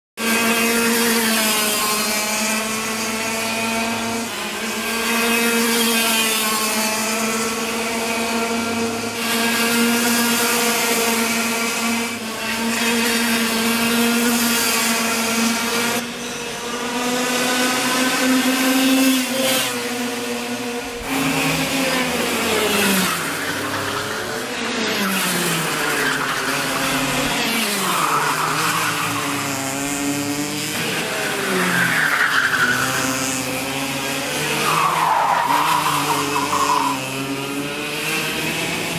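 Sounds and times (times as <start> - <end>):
go-kart engines at high revs: 0.2 - 38.9.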